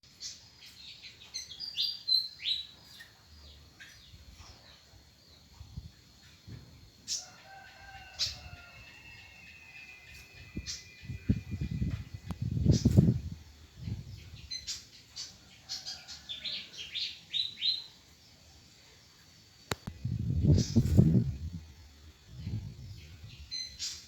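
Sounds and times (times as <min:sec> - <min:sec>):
leafbird chirping: 0:00.0 - 0:24.0.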